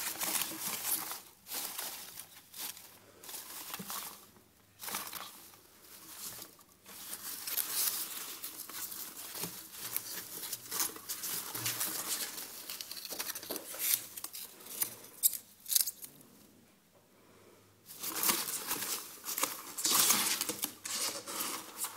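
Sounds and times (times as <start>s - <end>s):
packing peanuts rustling: 0.0s - 16.1s, 17.9s - 21.9s.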